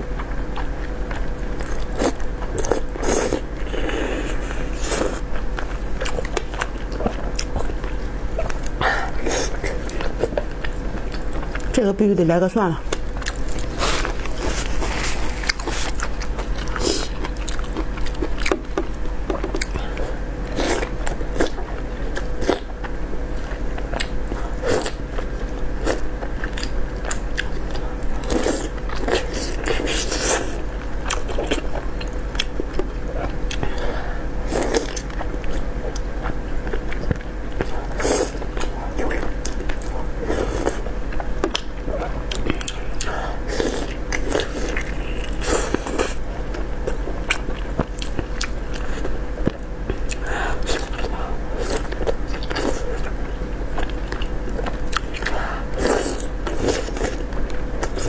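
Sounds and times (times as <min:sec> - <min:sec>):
chewing and crunching food: 0:00.0 - 0:58.0
faint electrical hum: 0:00.0 - 0:58.0.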